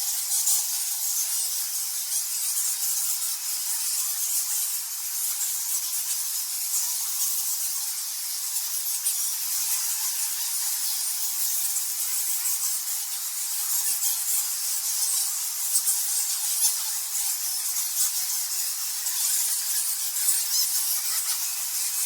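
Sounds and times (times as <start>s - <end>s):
bats squeaking and chittering: 0.1s - 22.0s.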